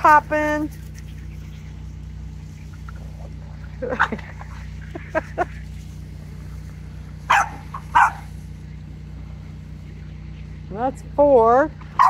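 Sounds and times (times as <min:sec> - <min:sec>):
low mechanical hum: 0:00.0 - 0:12.0
puppies vocalising: 0:00.4 - 0:10.6.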